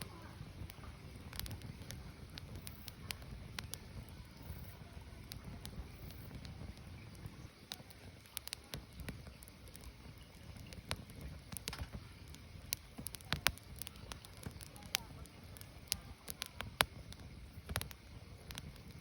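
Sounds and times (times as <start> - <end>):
burning firewood crackling: 0.0 - 19.0
low rumble of fire: 0.0 - 19.0.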